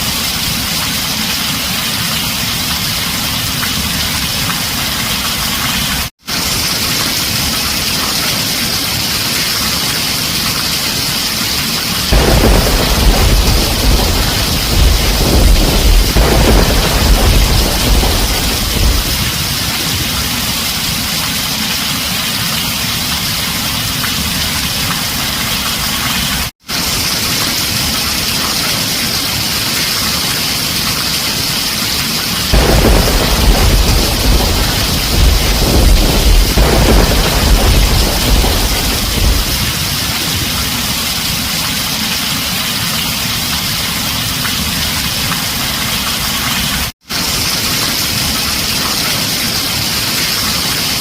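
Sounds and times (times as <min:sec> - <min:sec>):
heavy rain on a tin roof: 0:00.0 - 0:51.0.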